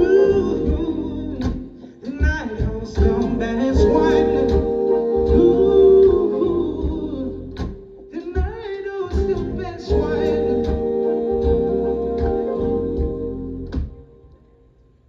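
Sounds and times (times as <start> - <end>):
keyboard chords: 0.0 - 2.4, 3.0 - 8.1, 9.2 - 14.4
drum beat: 0.0 - 13.2.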